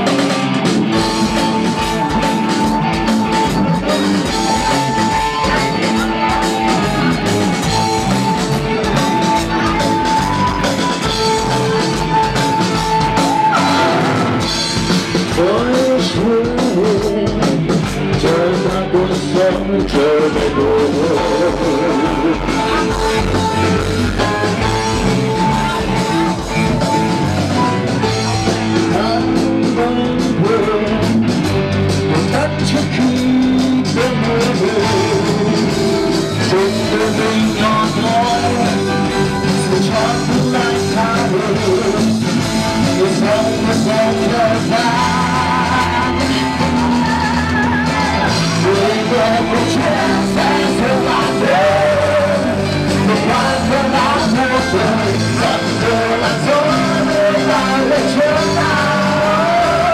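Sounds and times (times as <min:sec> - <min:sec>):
person singing: 0:00.0 - 0:59.9
rock band playing live: 0:00.0 - 0:59.9.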